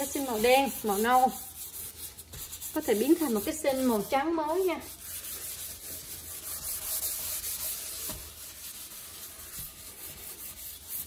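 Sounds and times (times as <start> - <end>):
sponge scrubbing a sink: 0.0 - 11.0.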